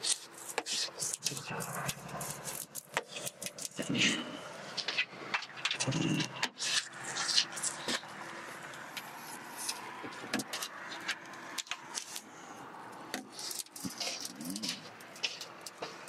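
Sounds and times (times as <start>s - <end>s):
road traffic: 0.0s - 16.0s
squeegee scraping on glass: 0.0s - 16.0s.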